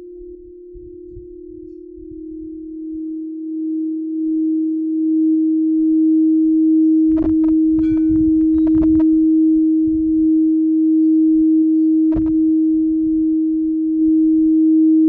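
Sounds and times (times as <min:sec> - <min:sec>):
crystal singing bowl tone: 0:00.0 - 0:15.0.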